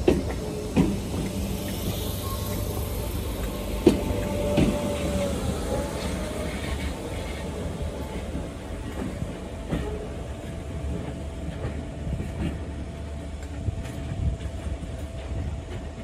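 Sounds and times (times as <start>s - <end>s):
train rumbling past: 0.0s - 16.0s
wheels clicking on track: 0.0s - 16.0s.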